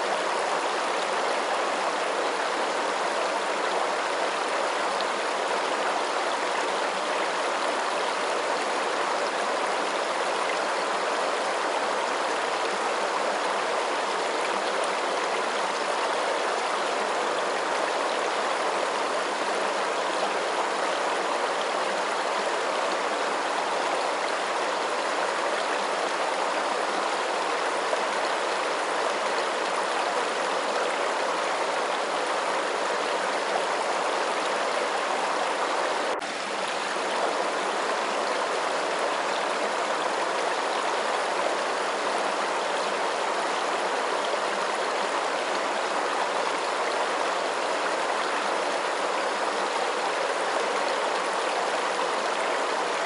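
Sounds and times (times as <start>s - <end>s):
water rushing: 0.0s - 53.0s.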